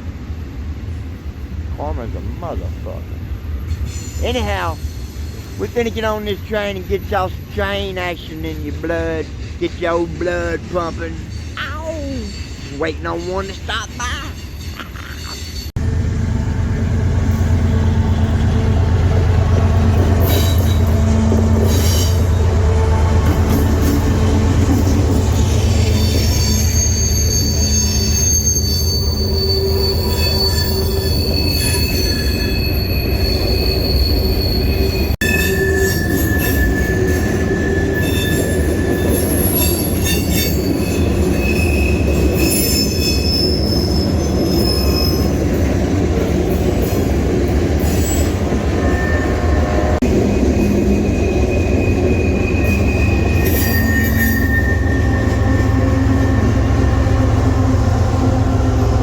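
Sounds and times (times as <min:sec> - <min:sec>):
freight train rumbling: 0:00.0 - 0:59.0
steel wheels squealing on rails: 0:02.5 - 0:15.8, 0:17.2 - 0:59.0.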